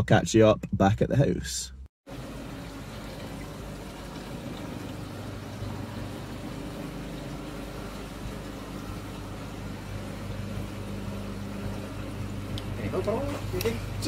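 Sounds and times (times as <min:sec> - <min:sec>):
aquarium pumps and filters humming: 0:02.0 - 0:14.0.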